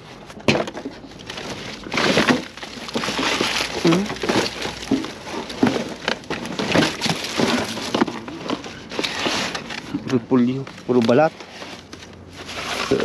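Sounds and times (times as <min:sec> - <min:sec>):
cardboard scraping and crumpling: 0:00.0 - 0:13.0
knocks and rustles: 0:00.0 - 0:13.0.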